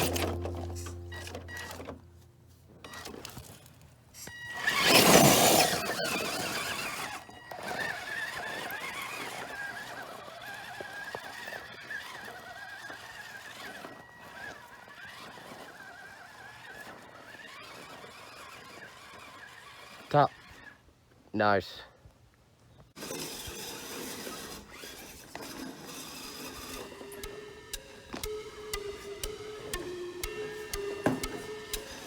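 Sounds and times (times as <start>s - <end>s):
toy truck electric motor whining: 2.9s - 21.0s, 23.0s - 32.0s.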